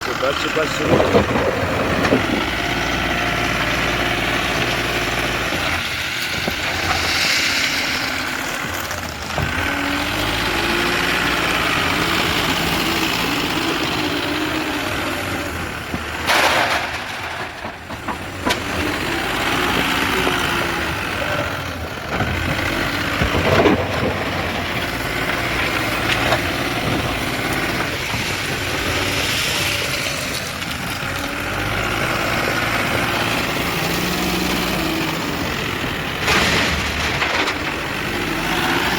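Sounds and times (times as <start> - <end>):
diesel engine working under load: 0.0 - 38.9.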